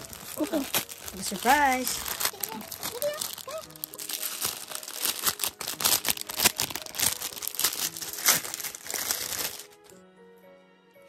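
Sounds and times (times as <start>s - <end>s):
plastic bag crinkling: 0.0s - 9.9s
faint background music: 0.0s - 11.0s.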